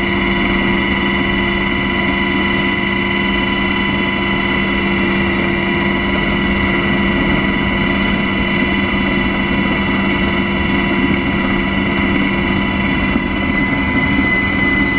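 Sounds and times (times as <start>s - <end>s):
aircraft turbine engines whining: 0.0s - 14.9s.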